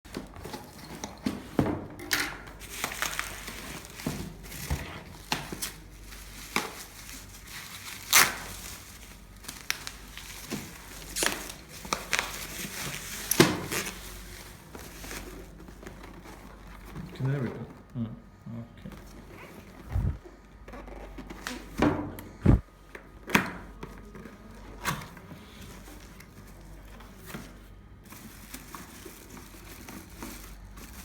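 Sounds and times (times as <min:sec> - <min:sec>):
crinkling and rustling: 0:00.1 - 0:17.9, 0:22.4 - 0:31.0.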